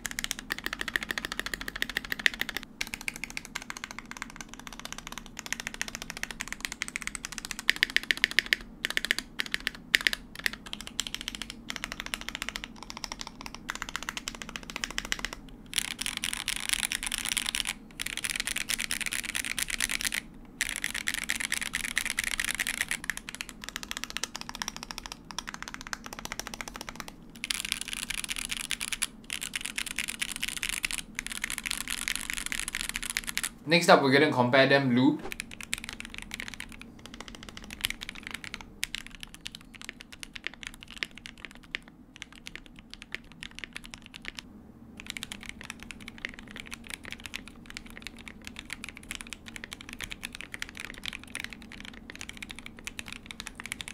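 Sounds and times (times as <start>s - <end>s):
mechanical keyboard typing: 0.0s - 33.6s, 35.2s - 53.9s.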